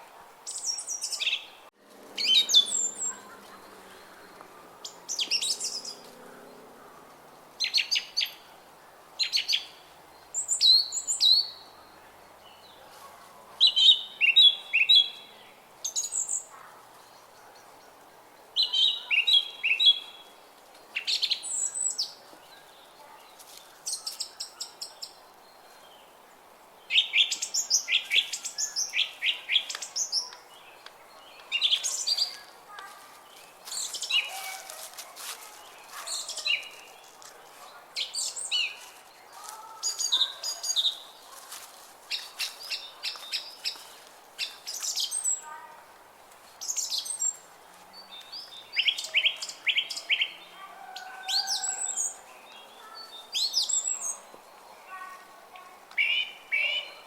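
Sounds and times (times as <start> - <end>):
faint steady background noise: 0.0 - 57.0
songbirds chirping and trilling: 0.0 - 57.0.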